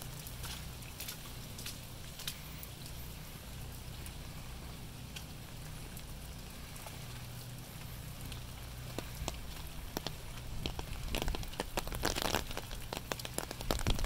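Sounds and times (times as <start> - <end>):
low rumble of wind: 0.0 - 14.0
rain hissing: 0.0 - 14.0.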